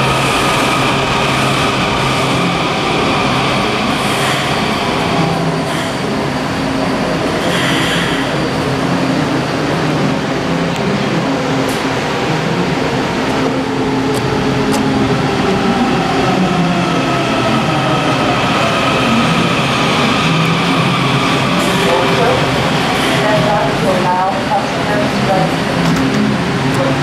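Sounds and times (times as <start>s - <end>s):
train rumble: 0.0s - 27.0s
train whine: 0.0s - 27.0s.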